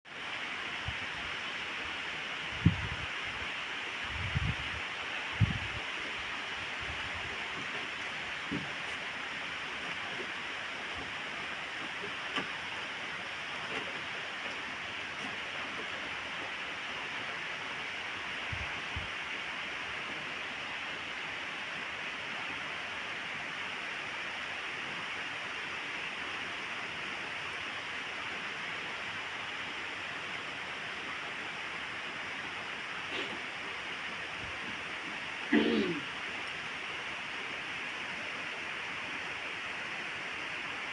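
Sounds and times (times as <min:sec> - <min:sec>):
steady rain: 0:00.1 - 0:40.9.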